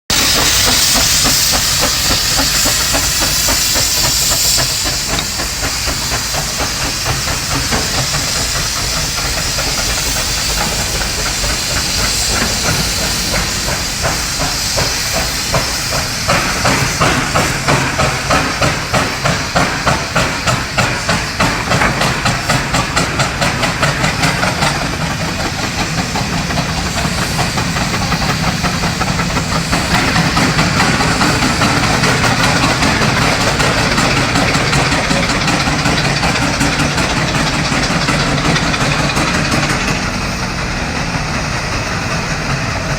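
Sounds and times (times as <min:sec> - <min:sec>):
rhythmic steam engine exhaust beats: 0:00.1 - 0:42.9
steam hissing: 0:00.1 - 0:42.9.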